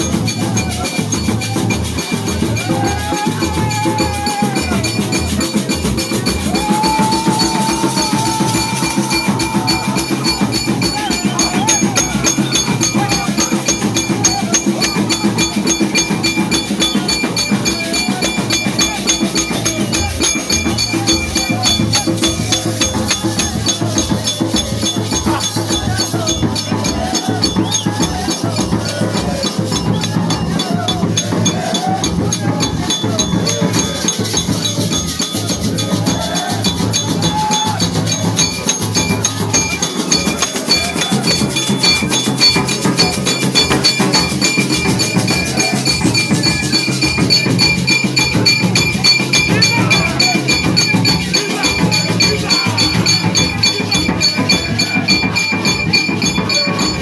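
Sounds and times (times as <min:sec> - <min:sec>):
voices singing: 0:00.0 - 0:57.0
wooden hand drums beating: 0:00.0 - 0:57.0.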